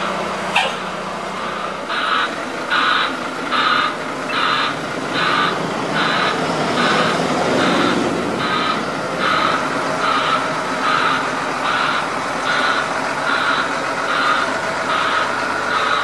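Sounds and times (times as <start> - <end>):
engine running: 0.0 - 16.0
vehicle warning beeper: 0.0 - 16.0.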